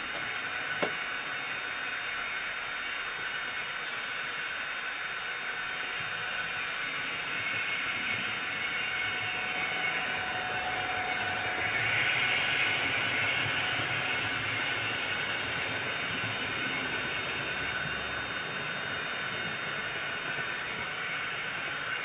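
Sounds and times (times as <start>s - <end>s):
model railcar running whine: 0.0s - 22.0s.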